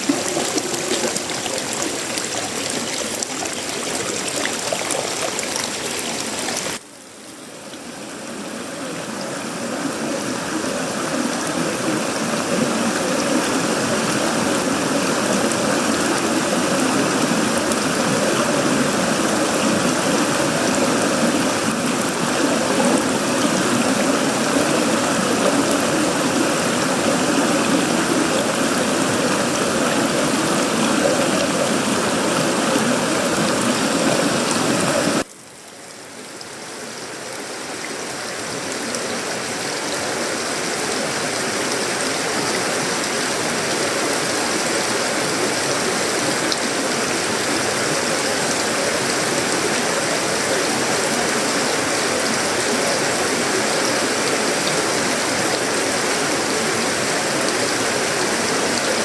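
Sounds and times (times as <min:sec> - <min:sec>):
rain on metal roof and leaves: 0:00.0 - 0:59.0.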